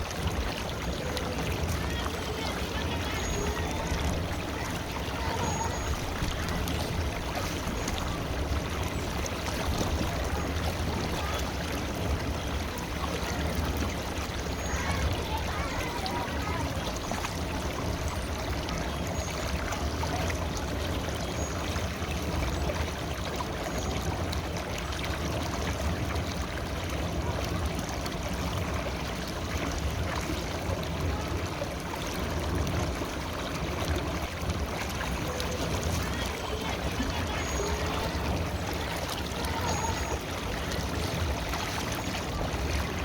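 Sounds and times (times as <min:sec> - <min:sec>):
river water flowing over rocks: 0:00.0 - 0:43.0.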